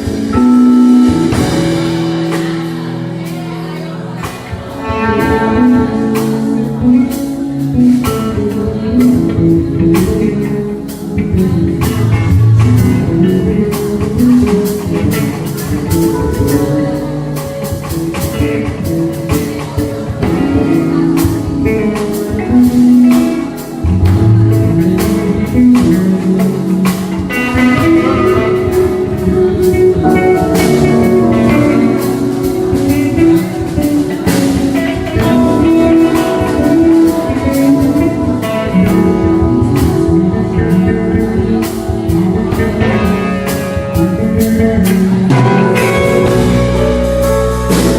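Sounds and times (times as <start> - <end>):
guitar: 0.0 - 47.9
steady drum beat: 0.0 - 47.9.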